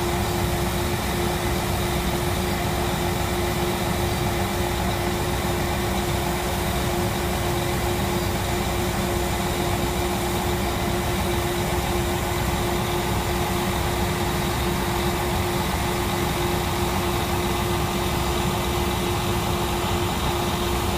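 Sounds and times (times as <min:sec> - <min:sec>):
machinery engine droning: 0:00.0 - 0:20.9
steady whine: 0:00.0 - 0:20.9.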